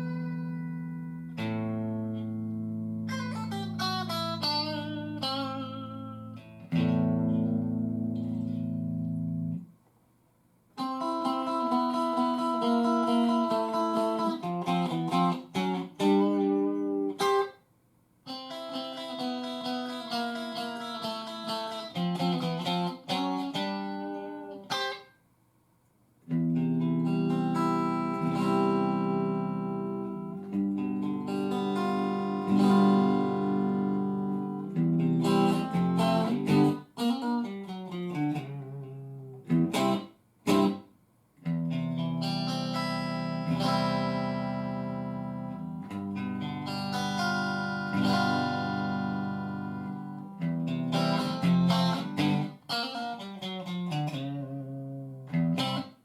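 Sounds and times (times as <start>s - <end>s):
clean electric guitar: 0.0s - 9.8s, 10.8s - 17.6s, 18.3s - 25.1s, 26.2s - 56.0s.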